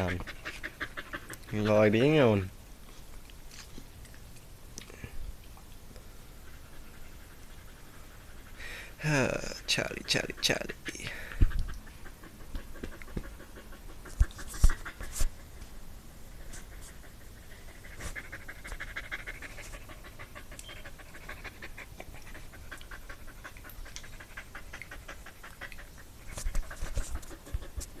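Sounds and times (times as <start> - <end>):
dog panting: 0.0 - 2.5, 6.3 - 28.0.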